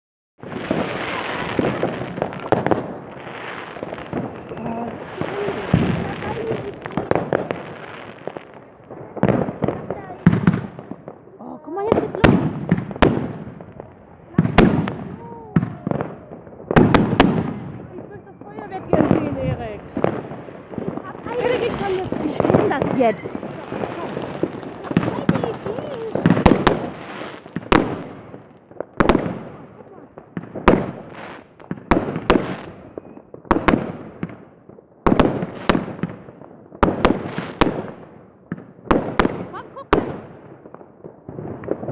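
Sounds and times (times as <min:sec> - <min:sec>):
fireworks bangs and pops: 0:00.4 - 0:41.9.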